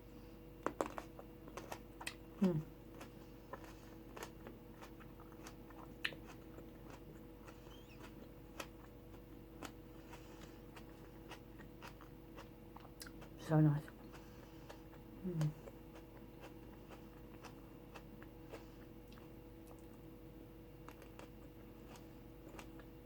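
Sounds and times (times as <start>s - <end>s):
crunchy chewing: 0.6s - 20.1s, 20.7s - 23.0s.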